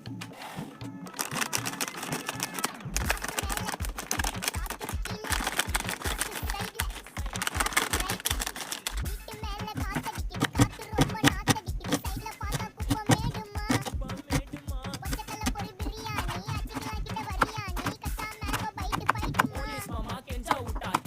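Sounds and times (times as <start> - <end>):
background music with beat: 0.0 - 21.0
rapid clicking and tapping: 1.0 - 21.0.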